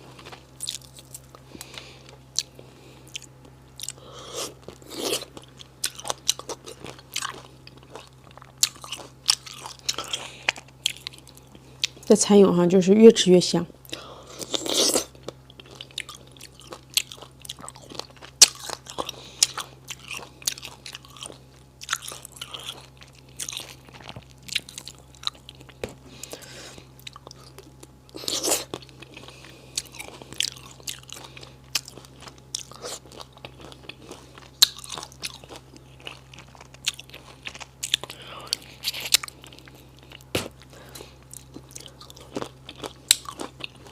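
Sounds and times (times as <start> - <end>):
crunchy chewing and biting: 0.0 - 12.1, 13.9 - 43.9.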